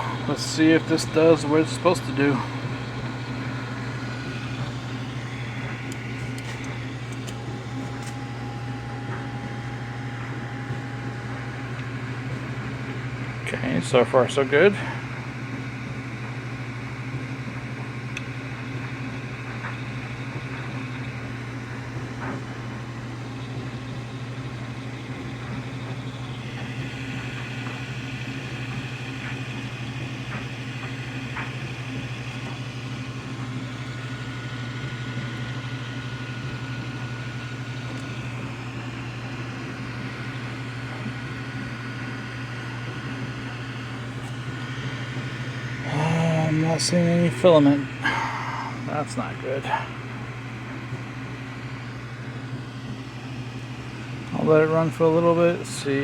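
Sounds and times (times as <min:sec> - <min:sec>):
printer fans humming: 0:00.0 - 0:56.0
stepper motor whines: 0:00.0 - 0:56.0.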